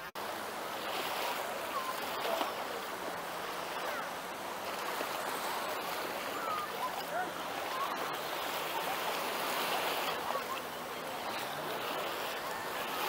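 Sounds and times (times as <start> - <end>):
small waves washing on beach: 0.0 - 13.0
faint distant voices: 0.9 - 13.0.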